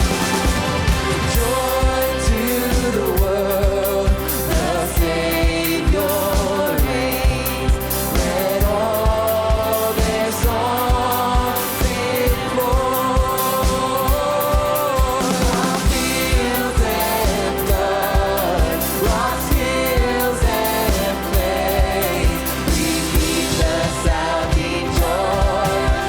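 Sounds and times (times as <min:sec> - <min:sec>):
lead singer singing: 0:00.0 - 0:26.0
worship band playing: 0:00.0 - 0:26.0.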